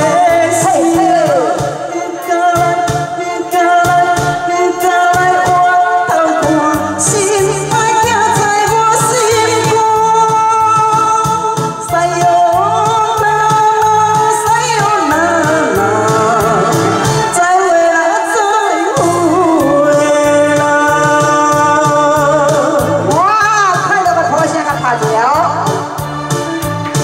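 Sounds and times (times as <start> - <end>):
woman singing into a microphone: 0.0 - 26.0
backing music with steady beat: 0.0 - 27.0.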